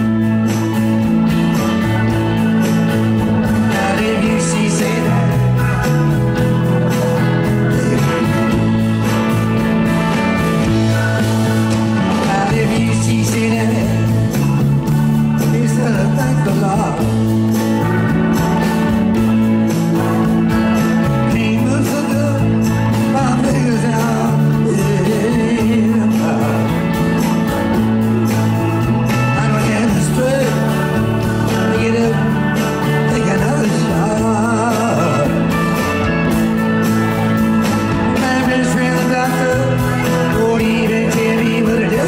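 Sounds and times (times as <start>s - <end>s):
bass line: 0.0s - 42.0s
live band playing: 0.0s - 42.0s
man singing: 1.6s - 42.0s.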